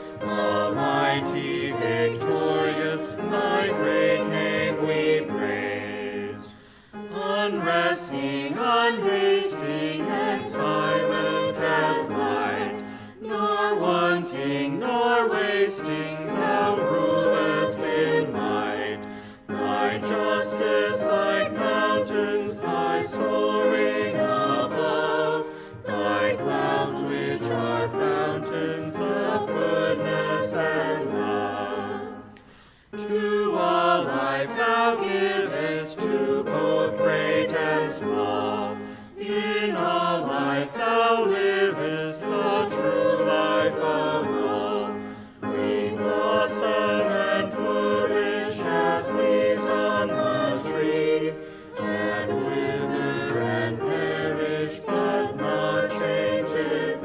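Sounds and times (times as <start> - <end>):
group singing a hymn: 0.0 - 57.0.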